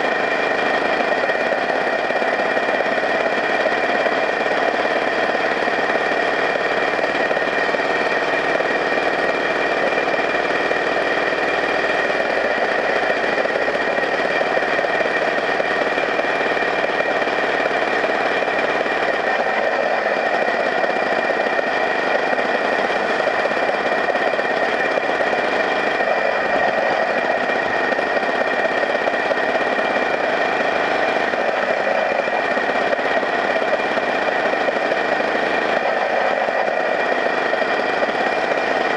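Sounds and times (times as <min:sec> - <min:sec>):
high whine: 0:00.0 - 0:38.9
vehicle engine drone: 0:00.0 - 0:38.9.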